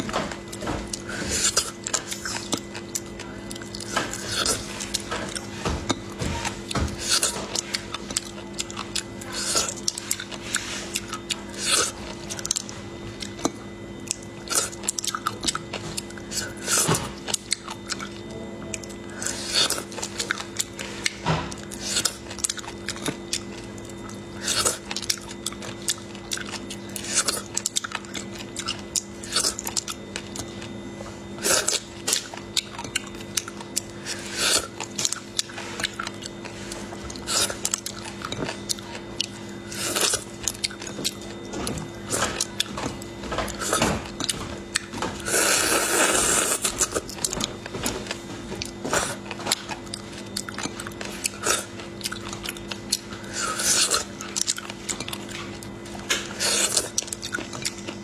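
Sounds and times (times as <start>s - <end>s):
sucking and chewing mouth sounds: 0.4s - 58.0s.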